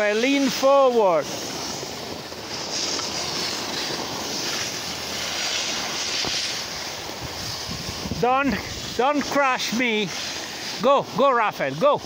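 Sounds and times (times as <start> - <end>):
skis scraping over snow: 0.0 - 12.0.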